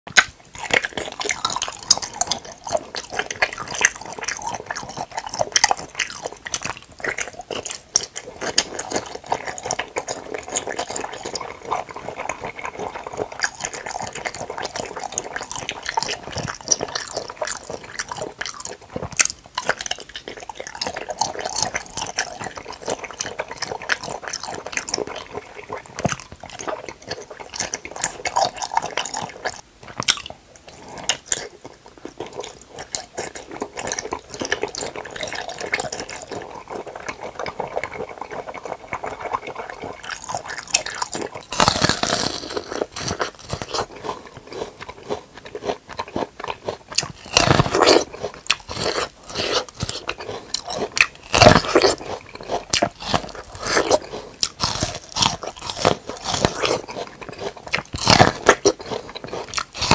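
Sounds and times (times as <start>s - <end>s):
wet chewing of jelly: 0.1s - 59.9s.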